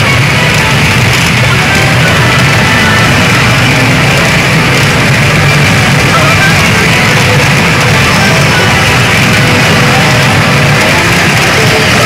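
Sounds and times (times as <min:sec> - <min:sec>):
pachinko machine rock music: 0:00.0 - 0:12.0.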